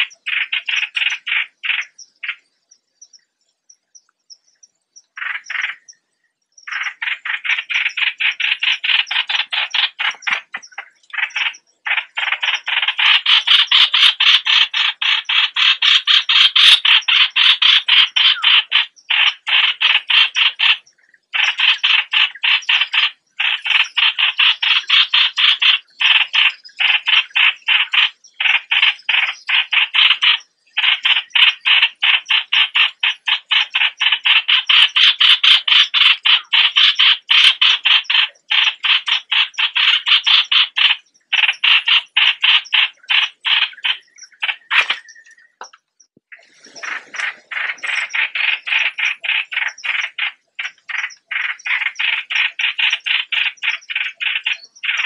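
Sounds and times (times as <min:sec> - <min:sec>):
bird harsh chatter: 0:00.0 - 0:02.5, 0:05.1 - 0:06.0, 0:06.6 - 0:55.0.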